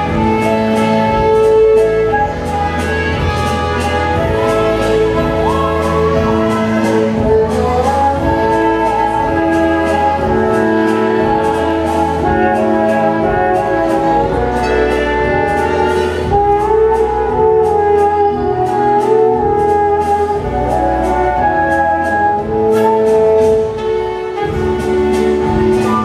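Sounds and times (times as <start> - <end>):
orchestra playing waltz: 0.0 - 26.0.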